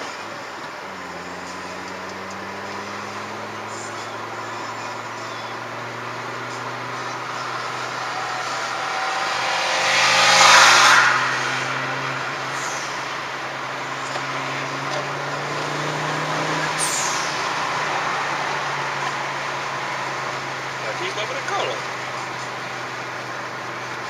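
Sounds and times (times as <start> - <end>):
car engine hum and tyre noise: 0.0 - 24.0
car overtaking alongside: 0.0 - 24.0.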